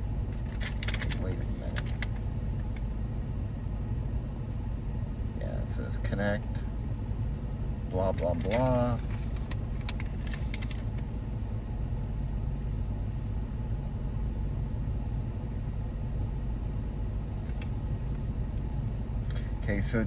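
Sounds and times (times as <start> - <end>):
car engine idling drone: 0.0 - 20.0.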